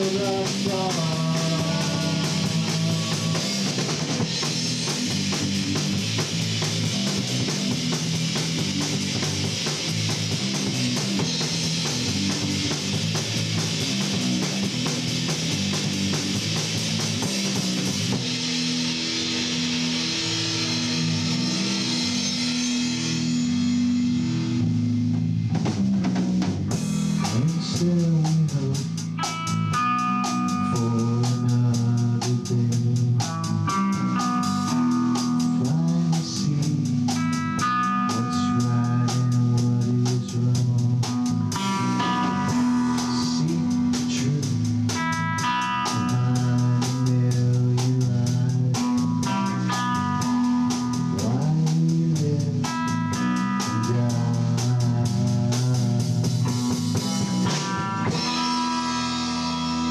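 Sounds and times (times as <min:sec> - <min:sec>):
drum kit with cymbals: 0:00.0 - 0:59.9
electric guitar and bass: 0:00.0 - 0:59.9.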